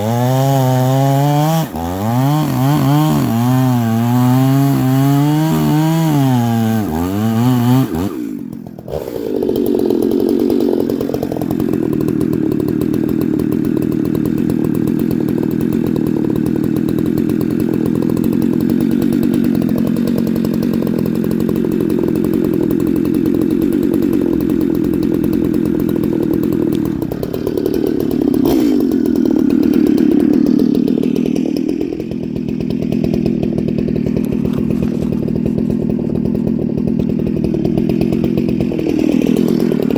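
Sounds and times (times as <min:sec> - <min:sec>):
chainsaw running hard: 0:00.0 - 0:39.9.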